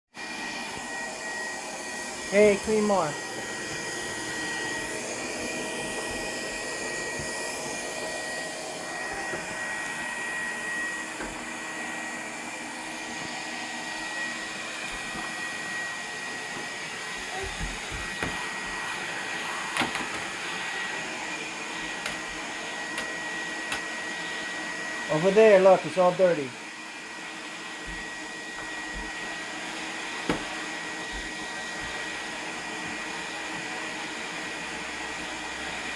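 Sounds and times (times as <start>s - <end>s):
vacuum cleaner running: 0.1s - 35.9s.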